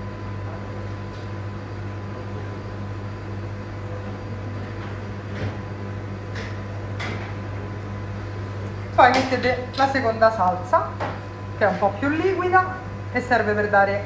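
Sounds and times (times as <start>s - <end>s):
kitchen machinery hum: 0.0s - 14.0s.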